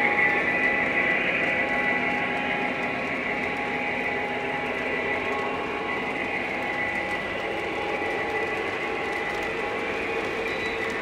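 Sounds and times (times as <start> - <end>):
model trains humming and rumbling: 0.0 - 11.0.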